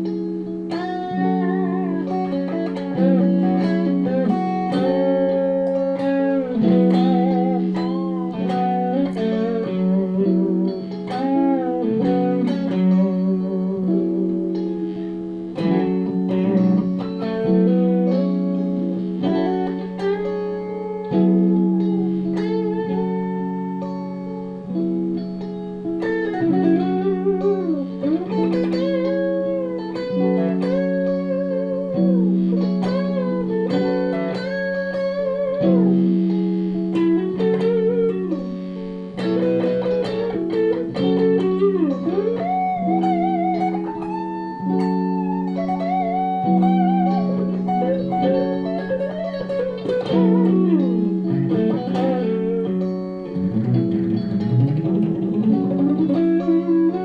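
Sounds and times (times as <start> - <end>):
bluesy electric guitar lead: 0.0 - 57.0.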